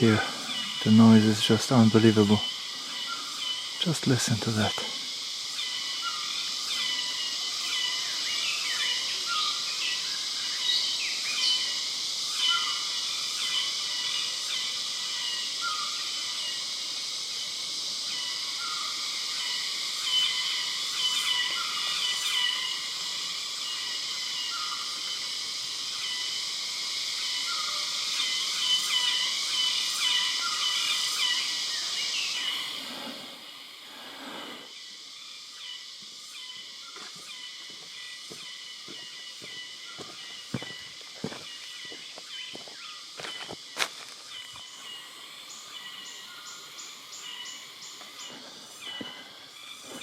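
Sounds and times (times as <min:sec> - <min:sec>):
birds chirping: 0:00.0 - 0:16.7, 0:18.0 - 0:50.0
insects droning: 0:00.0 - 0:50.0.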